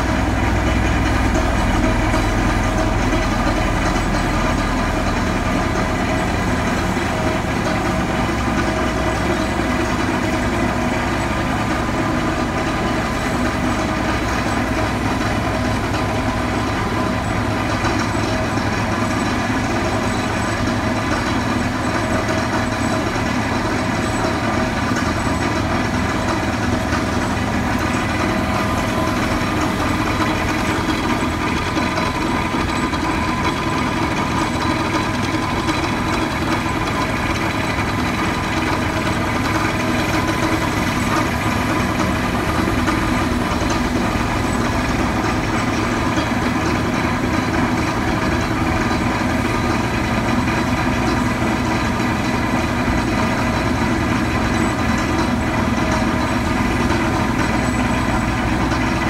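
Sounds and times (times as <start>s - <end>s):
diesel crane engine idling: 0.0s - 59.0s.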